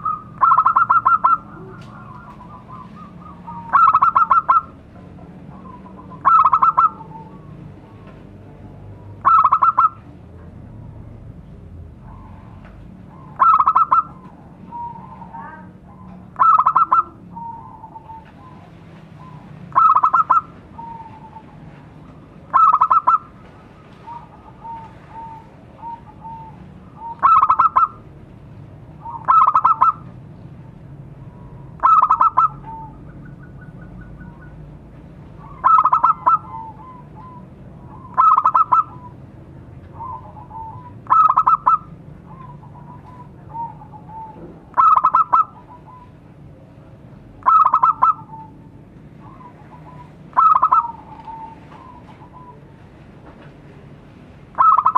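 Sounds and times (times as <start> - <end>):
dove cooing: 0.0 - 8.0, 9.0 - 10.1, 12.0 - 28.1, 29.0 - 30.1, 31.2 - 46.2, 47.4 - 52.8, 54.6 - 54.9.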